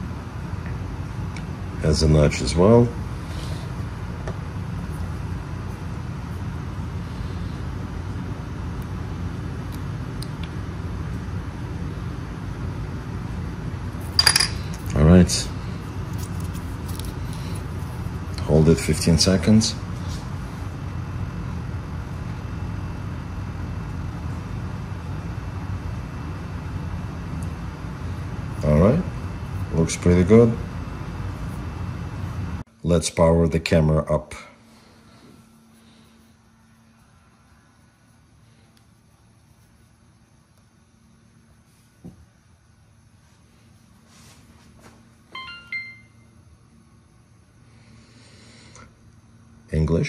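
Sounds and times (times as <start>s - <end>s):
low background hum: 0.0s - 50.0s
low room rumble: 0.0s - 50.0s.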